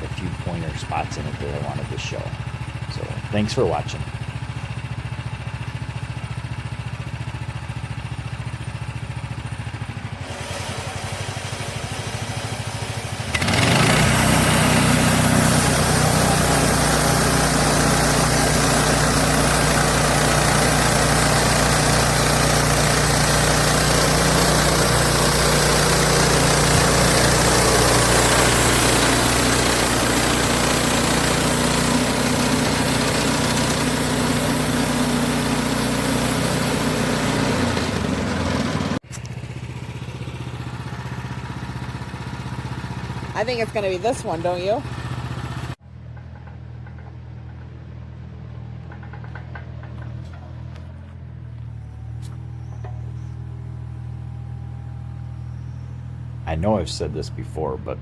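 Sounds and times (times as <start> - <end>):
sawmill engine idling and revving: 0.0 - 58.0.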